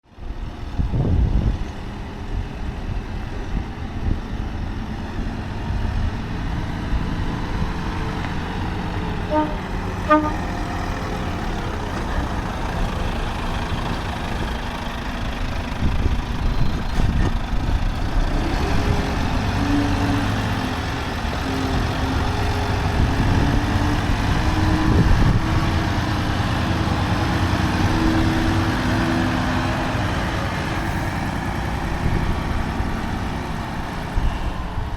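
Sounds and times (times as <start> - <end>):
heavy truck engine running: 0.1 - 34.9.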